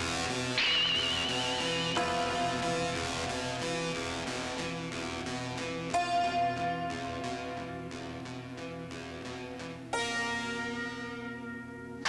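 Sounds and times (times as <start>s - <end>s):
repeating plucked notes: 0.2s - 12.0s.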